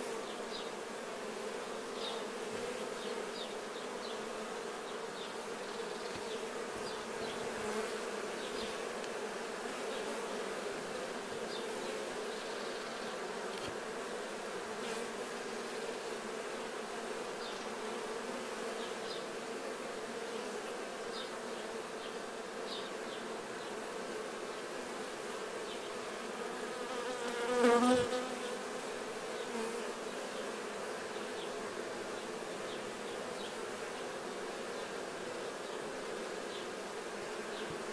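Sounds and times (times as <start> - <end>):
honey bees buzzing: 0.0 - 37.9.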